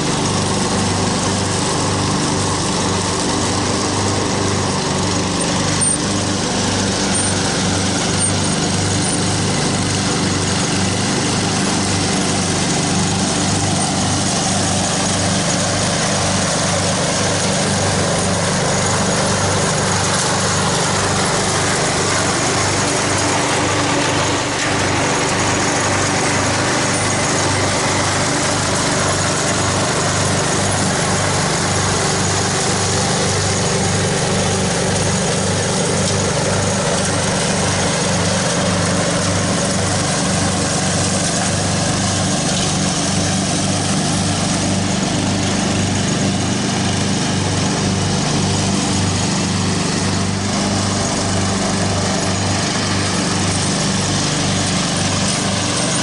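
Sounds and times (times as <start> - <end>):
lawn mower engine running: 0.0 - 56.0
mower deck chopping dry leaves: 0.0 - 56.0.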